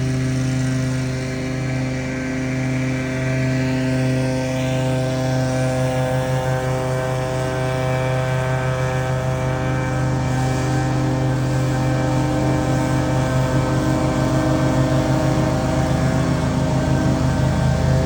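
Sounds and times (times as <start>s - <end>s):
leaf blower engine droning: 0.0s - 18.0s.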